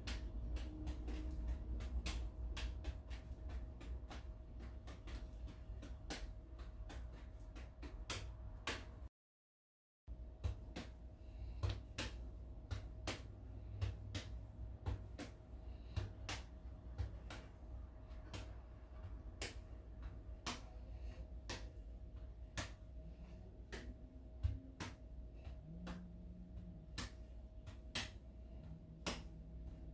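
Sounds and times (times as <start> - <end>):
steady low hum: 0.0 - 9.1, 10.1 - 29.9.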